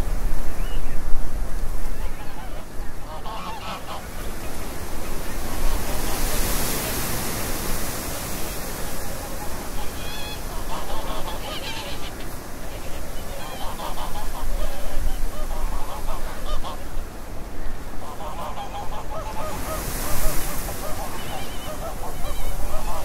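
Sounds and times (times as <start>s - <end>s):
flock of geese honking: 1.8s - 23.0s.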